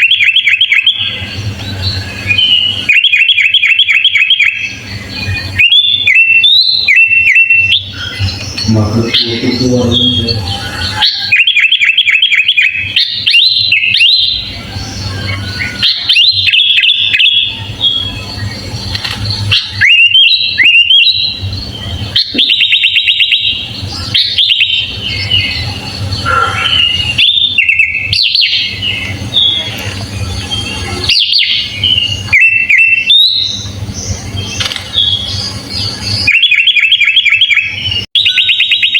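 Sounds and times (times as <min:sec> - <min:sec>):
bird chirping and whistling: 0:00.0 - 0:38.9
steady low hum: 0:00.8 - 0:03.0, 0:04.5 - 0:11.4, 0:12.7 - 0:36.3.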